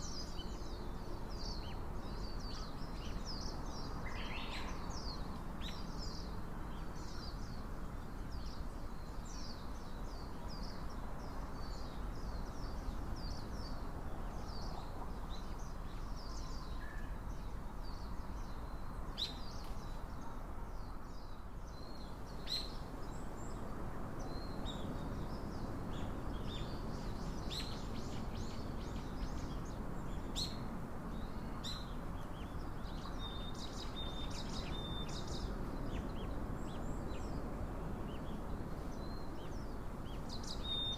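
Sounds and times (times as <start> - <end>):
low outdoor background noise: 0.0 - 40.9
small birds chirping: 0.0 - 40.9.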